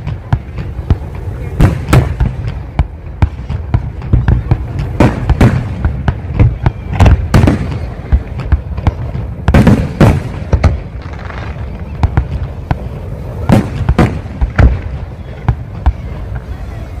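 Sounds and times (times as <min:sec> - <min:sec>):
continuous low rumble: 0:00.0 - 0:17.0
fireworks bangs: 0:00.0 - 0:17.0.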